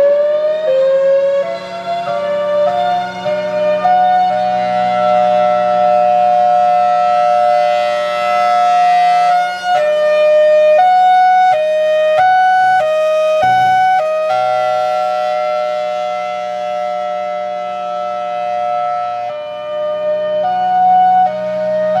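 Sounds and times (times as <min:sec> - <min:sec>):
warning siren: 0:00.0 - 0:22.0.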